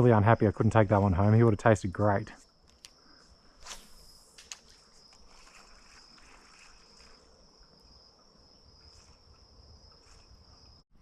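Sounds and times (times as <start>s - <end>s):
insects trilling: 0.0s - 10.8s.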